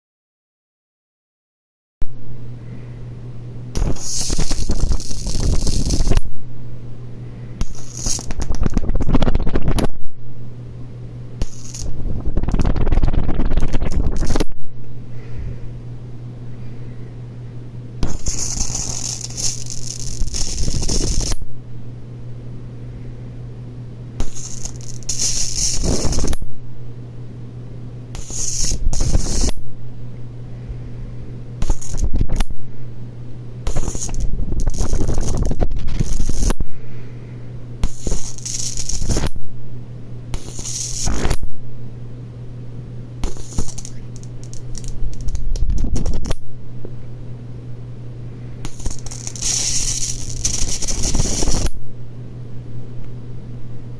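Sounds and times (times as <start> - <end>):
high-voltage arc crackling and buzzing: 2.0 - 53.9
steady low hum: 2.0 - 53.9.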